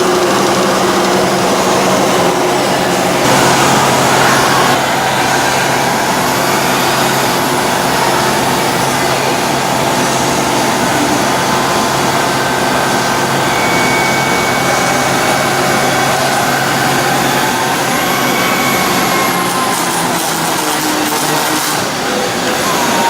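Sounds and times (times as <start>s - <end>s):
milling machine hum and whine: 0.0s - 23.0s.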